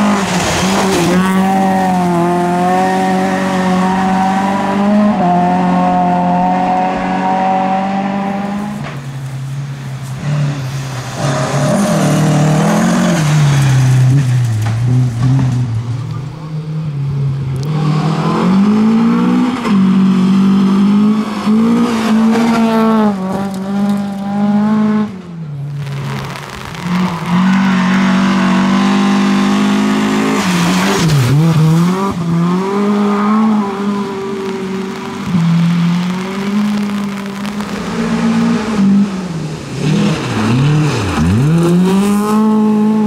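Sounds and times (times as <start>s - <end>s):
rally car engine revving hard: 0.0s - 8.9s, 10.2s - 15.6s, 17.6s - 43.0s.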